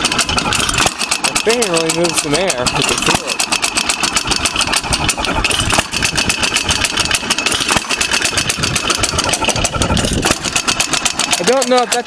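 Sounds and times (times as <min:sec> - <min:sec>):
engine mechanical clatter: 0:00.0 - 0:12.0
heavy engine knocks: 0:00.0 - 0:12.0.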